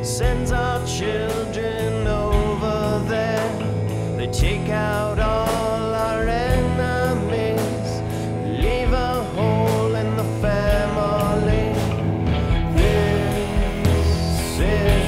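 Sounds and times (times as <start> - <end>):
electric guitar: 0.0 - 15.0
male voice singing: 0.0 - 15.0
steady drumbeat: 0.0 - 15.0.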